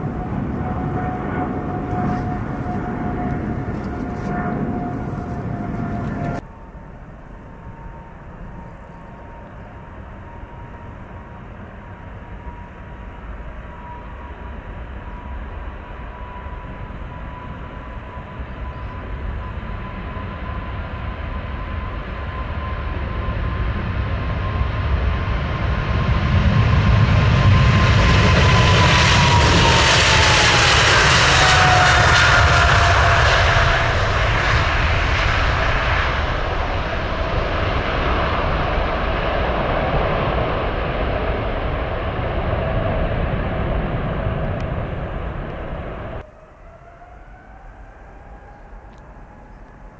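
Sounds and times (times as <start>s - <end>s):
high engine whine: 0.0s - 49.9s
jet airliner flying past: 0.0s - 49.9s.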